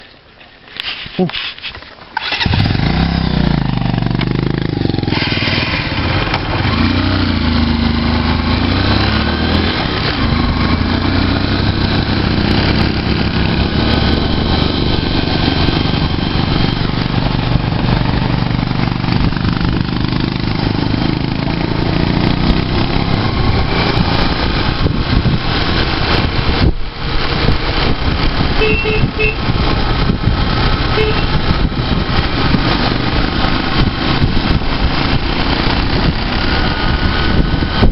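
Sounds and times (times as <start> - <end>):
motorcycle engine running: 2.2 - 37.9.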